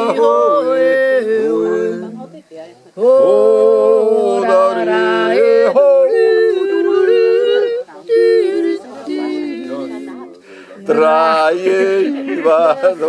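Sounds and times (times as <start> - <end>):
man and woman singing in harmony: 0.0 - 13.0.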